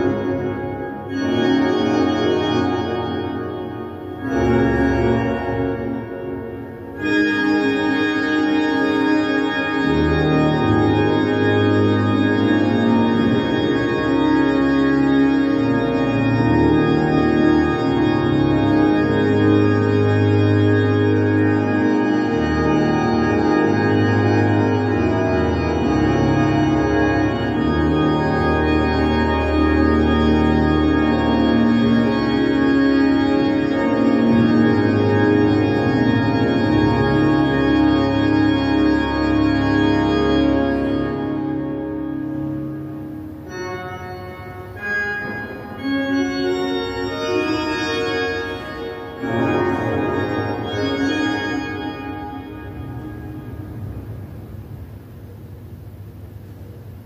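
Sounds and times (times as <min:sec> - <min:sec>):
electric organ chords: 0:00.0 - 0:57.0.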